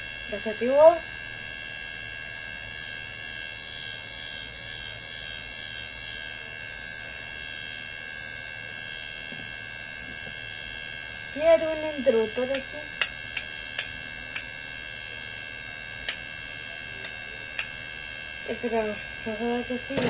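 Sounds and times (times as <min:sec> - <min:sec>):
motor-driven siren wailing: 0:00.0 - 0:20.0.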